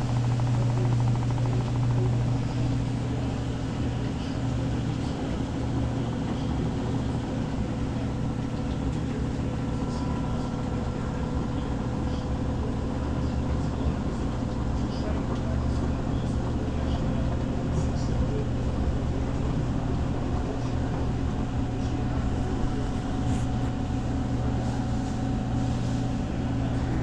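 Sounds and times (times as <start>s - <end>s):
washing machine motor hum: 0.0s - 27.0s.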